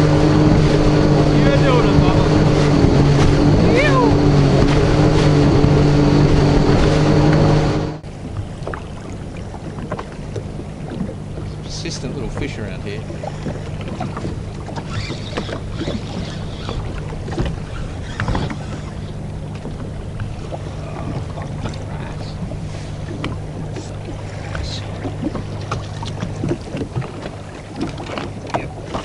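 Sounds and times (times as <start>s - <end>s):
jet ski engine idling: 0.0s - 29.0s
knocks and splashes: 0.0s - 29.0s
small waves slapping hull: 0.0s - 29.0s
wind on microphone: 0.0s - 29.0s.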